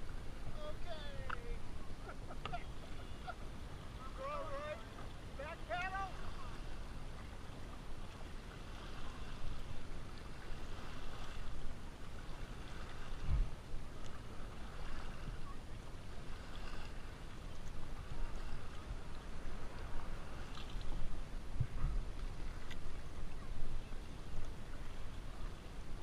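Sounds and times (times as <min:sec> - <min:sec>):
paddles pulling through water: 0:00.0 - 0:26.0
water noise along hull: 0:00.0 - 0:26.0.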